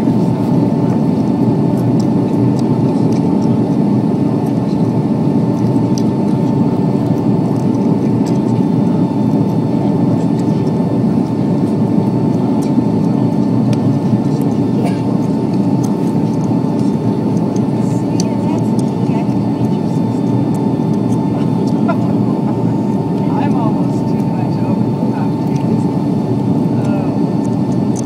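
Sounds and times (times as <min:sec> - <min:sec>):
airliner cabin roar: 0:00.0 - 0:28.0
thin steady whine: 0:00.0 - 0:28.0.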